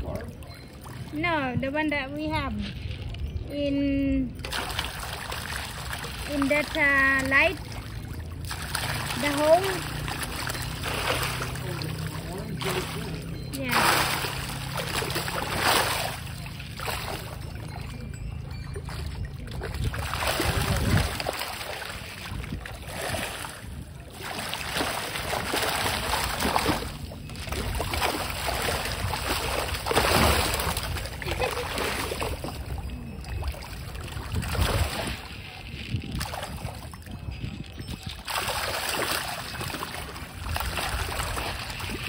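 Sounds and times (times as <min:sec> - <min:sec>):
fish splashing at water surface: 0:04.4 - 0:37.2, 0:37.9 - 0:42.0.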